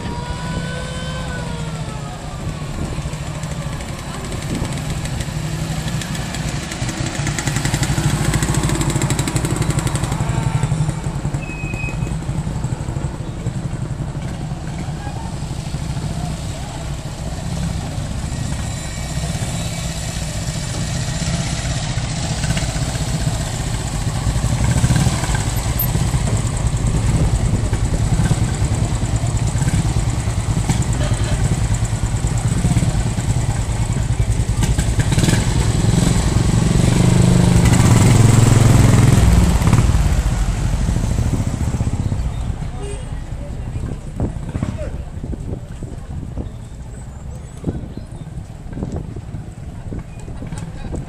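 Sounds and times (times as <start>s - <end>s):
jeep engine running: 0.0s - 51.0s
motorcycle engine running: 0.0s - 51.0s.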